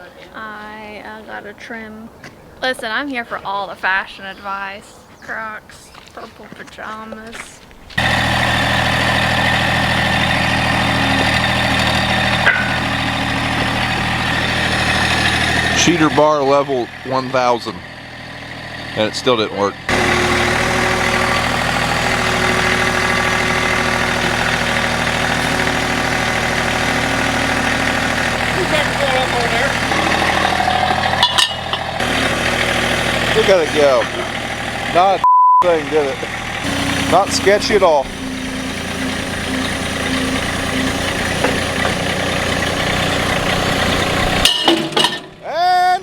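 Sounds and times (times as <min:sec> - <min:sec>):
heavy equipment engine idling: 0:07.9 - 0:46.0
machinery running: 0:08.0 - 0:45.5.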